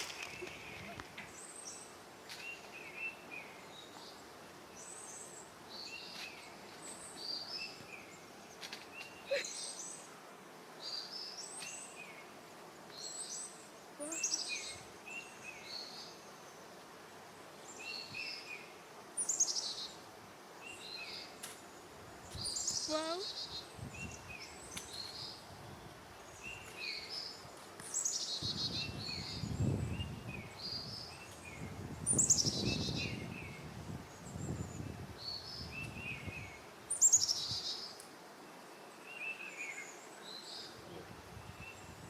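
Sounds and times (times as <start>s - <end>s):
outdoor background hiss: 0.0s - 42.0s
songbirds singing: 0.0s - 42.0s.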